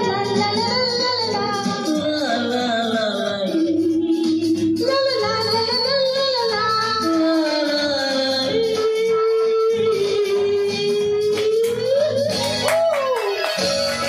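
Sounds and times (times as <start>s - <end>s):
person singing into microphone: 0.0s - 12.6s
band with steady beat: 0.0s - 14.0s.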